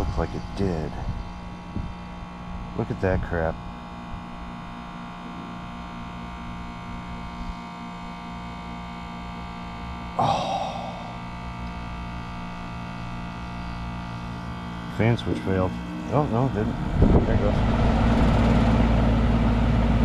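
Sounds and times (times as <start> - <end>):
compressor humming: 0.0 - 20.0.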